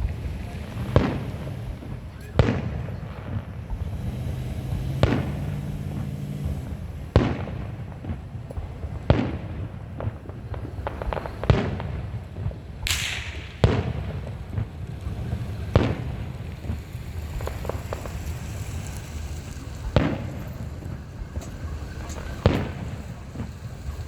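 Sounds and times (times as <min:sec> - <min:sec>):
firework shells booming: 0:00.0 - 0:24.0
fireworks crackling: 0:00.0 - 0:24.0
hissing firework burst: 0:00.0 - 0:24.0.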